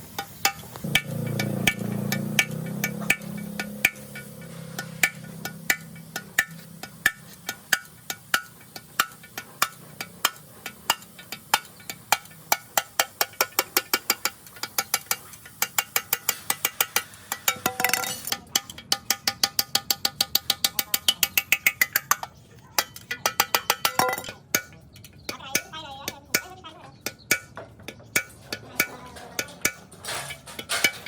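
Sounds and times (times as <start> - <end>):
hammer tapping on metal: 0.1 - 31.0.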